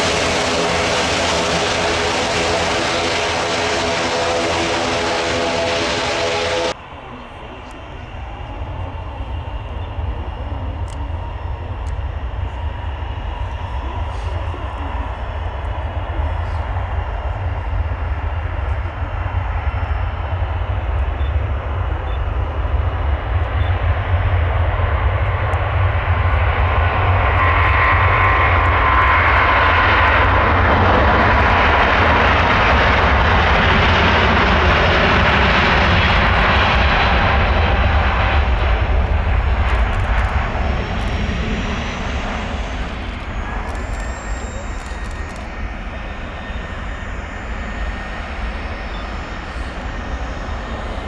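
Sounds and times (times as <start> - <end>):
jet engine whine: 0.0 - 51.0
jet engines roaring at takeoff: 0.0 - 51.0.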